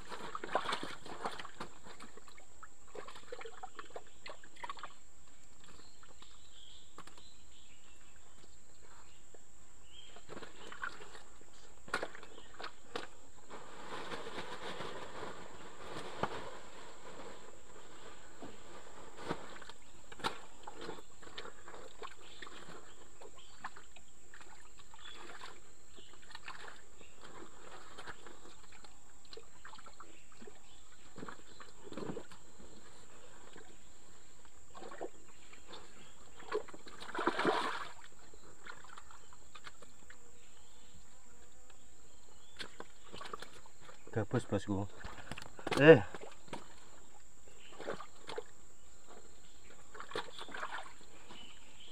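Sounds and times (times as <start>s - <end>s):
mud and water splashing: 0.0s - 7.3s, 9.9s - 40.2s, 42.4s - 51.9s.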